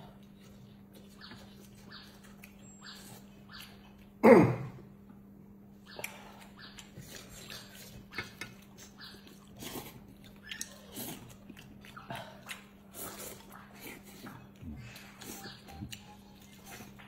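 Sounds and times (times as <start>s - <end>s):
chewing and slurping: 0.0s - 4.2s, 5.9s - 17.0s.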